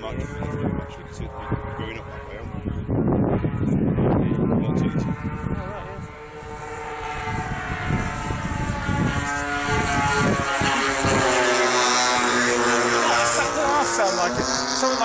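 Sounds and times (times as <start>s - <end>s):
model aeroplane engines droning: 0.0s - 15.0s
wind rumble on microphone: 0.0s - 15.0s.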